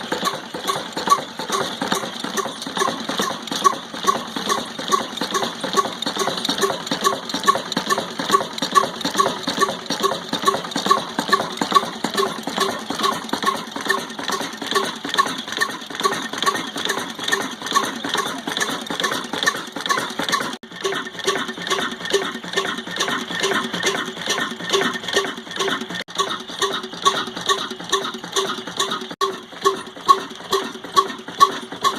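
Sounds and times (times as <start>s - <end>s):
diesel engine clattering rhythmically: 0.0s - 31.9s.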